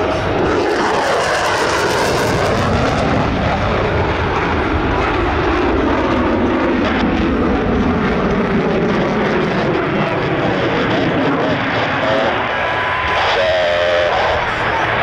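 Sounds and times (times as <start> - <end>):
jet engine roaring overhead: 0.0 - 15.0.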